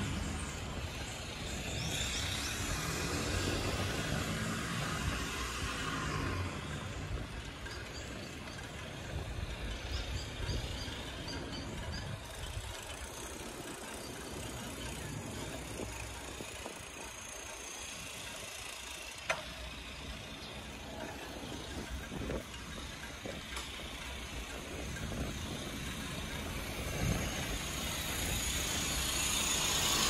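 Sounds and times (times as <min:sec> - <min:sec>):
bicycle tyres rolling on asphalt: 0:00.0 - 0:30.0.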